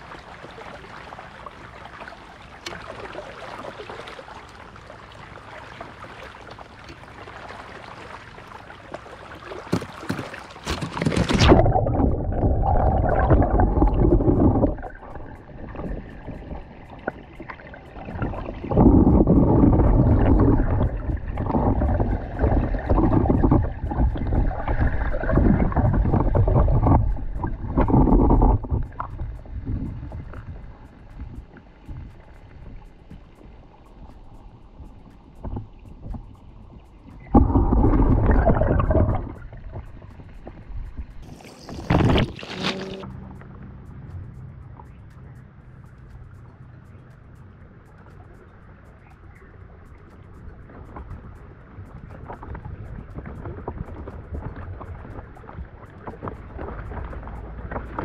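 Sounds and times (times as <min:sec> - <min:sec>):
water rushing against boat: 0:00.0 - 0:43.8, 0:46.0 - 0:58.0.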